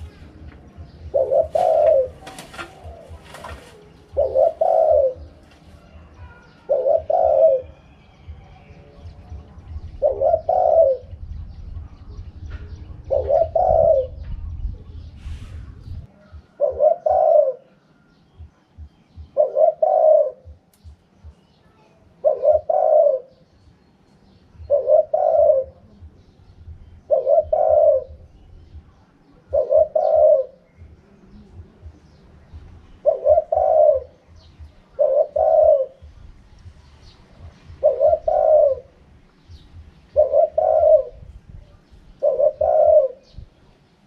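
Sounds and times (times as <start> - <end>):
dove cooing: 0.0 - 8.0, 9.1 - 21.4, 22.1 - 23.7, 24.5 - 43.6.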